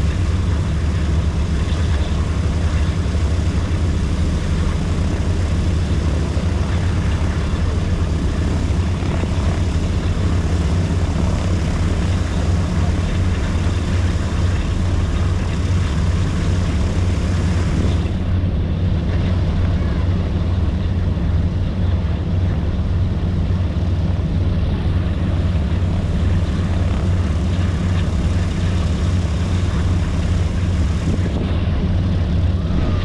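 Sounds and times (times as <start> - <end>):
radial aircraft engines droning: 0.0 - 33.0.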